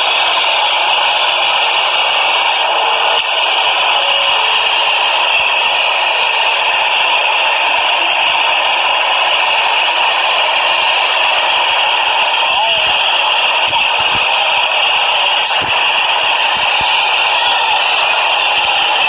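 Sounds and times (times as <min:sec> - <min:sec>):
subway train rushing and rattling: 0:00.0 - 0:19.0.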